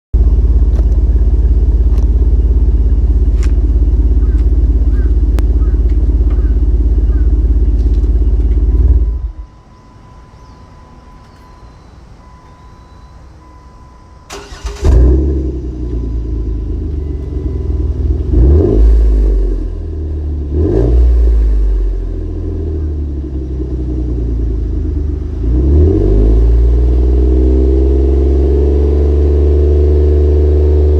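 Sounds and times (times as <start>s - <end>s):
car engine revving: 0.2s - 9.5s, 14.3s - 30.9s
car engine idling: 0.2s - 29.9s.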